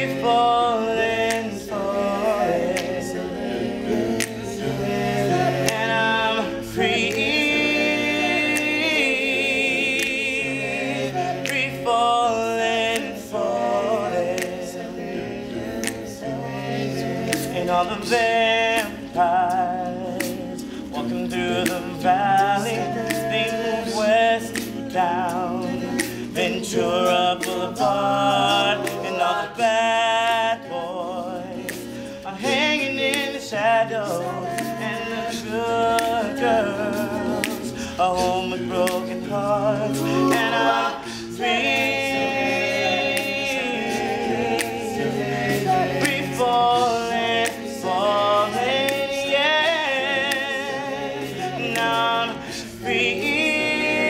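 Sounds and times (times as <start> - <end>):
male a cappella group singing: 0.0 - 54.0.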